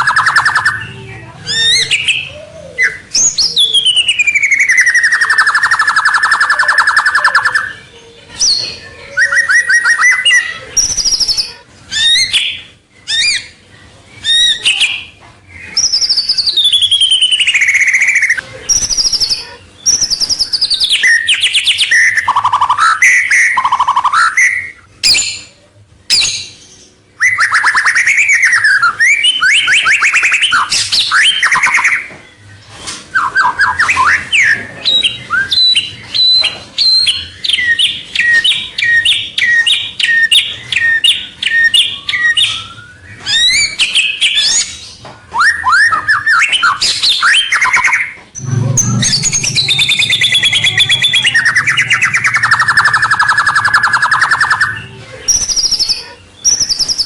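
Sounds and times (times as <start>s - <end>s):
bird singing whistles and trills: 0.0s - 13.6s, 14.2s - 25.5s, 26.1s - 32.4s, 33.1s - 57.0s.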